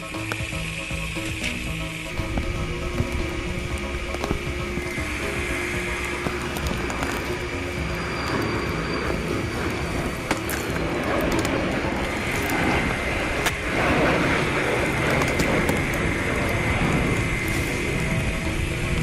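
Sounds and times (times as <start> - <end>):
machine engine running: 0.0 - 19.0.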